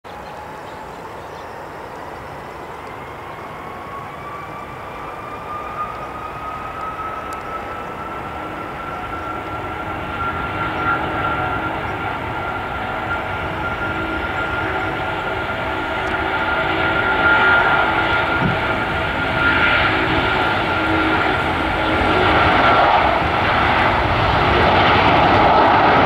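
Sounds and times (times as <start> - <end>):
aircraft engines whining: 0.1 - 26.0.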